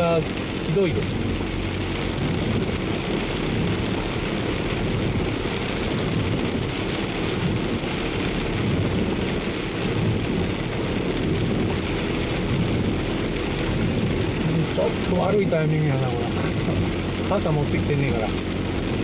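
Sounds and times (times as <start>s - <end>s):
car running noise: 0.0s - 19.0s
heavy rain on car: 0.0s - 19.0s.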